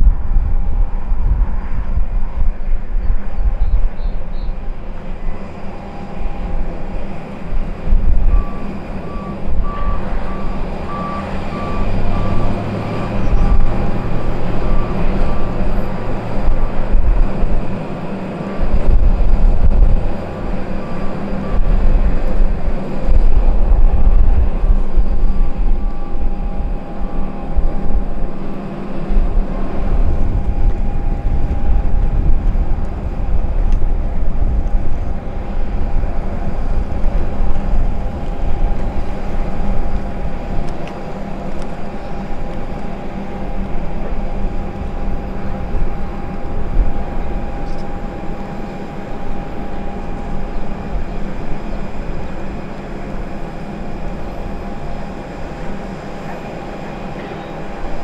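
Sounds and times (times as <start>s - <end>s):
turboprop engines running: 0.0s - 58.0s
wind buffeting microphone: 0.0s - 58.0s
vehicle reversing beeper: 4.0s - 57.9s.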